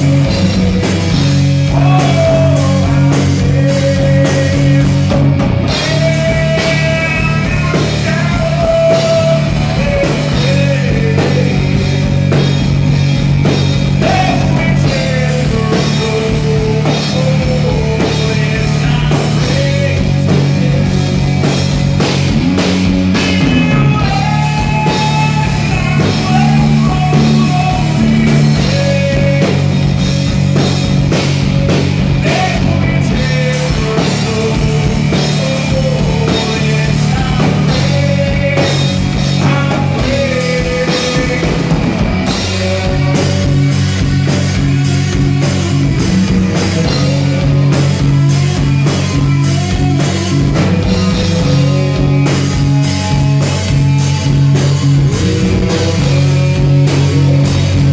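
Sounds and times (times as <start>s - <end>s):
bass guitar: 0.0s - 57.9s
drum kit: 0.0s - 57.9s
electric guitar: 0.0s - 57.9s
man singing lead vocals: 0.0s - 57.9s.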